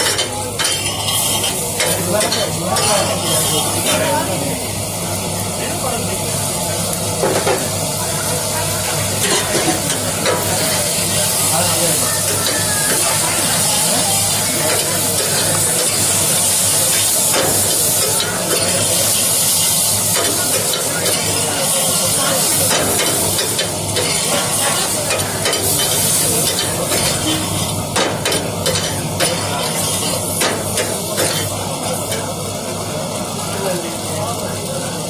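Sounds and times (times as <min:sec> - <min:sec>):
pasta sizzling in a frying pan: 0:00.0 - 0:35.0.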